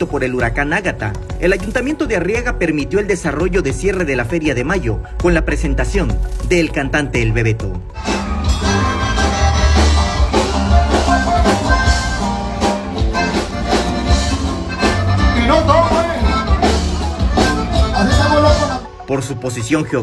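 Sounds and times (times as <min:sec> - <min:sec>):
live band bass and drums: 0:00.0 - 0:20.0.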